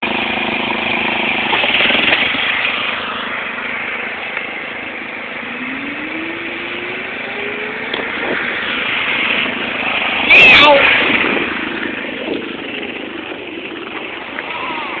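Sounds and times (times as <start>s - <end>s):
lawn mower engine revving: 0.0s - 15.0s.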